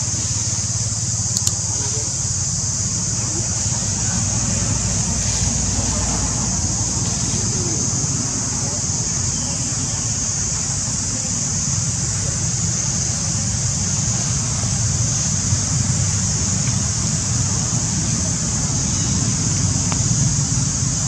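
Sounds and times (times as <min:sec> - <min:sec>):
high-pitched hiss: 0:00.0 - 0:21.0
wind buffeting microphone: 0:00.0 - 0:21.0.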